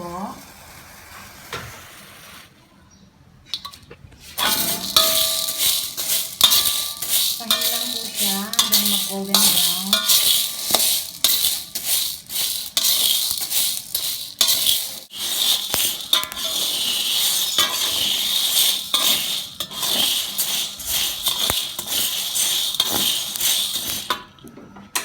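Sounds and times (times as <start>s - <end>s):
utensil scraping a pan: 4.2s - 24.3s
dry beans rattling in a pan: 4.2s - 24.4s.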